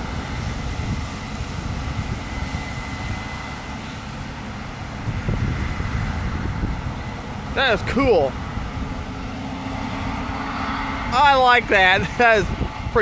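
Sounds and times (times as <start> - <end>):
combine engine rumble: 0.0 - 13.0.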